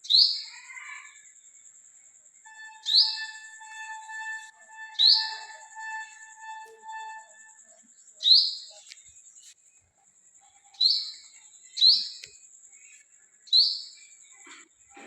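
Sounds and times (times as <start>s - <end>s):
bird chirping: 0.0s - 9.6s, 10.4s - 14.6s.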